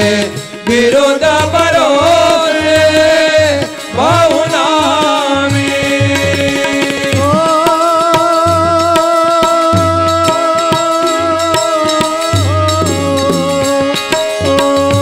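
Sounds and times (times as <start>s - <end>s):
harmonium drone: 0.0s - 15.0s
tabla strokes: 0.0s - 15.0s.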